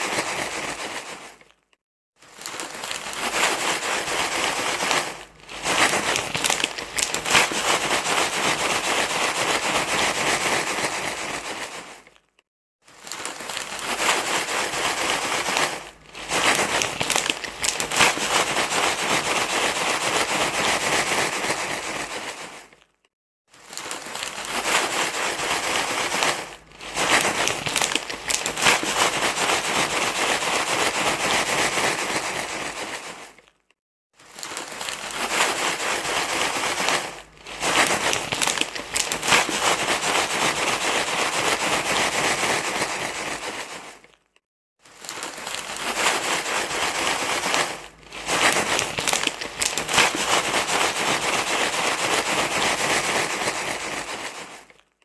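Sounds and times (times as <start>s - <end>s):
dense rustling and crinkling: 0.0s - 55.0s.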